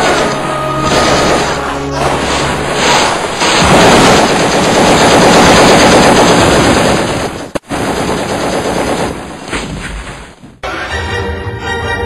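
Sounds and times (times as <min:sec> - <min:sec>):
machine-gun fire: 0:00.0 - 0:09.7.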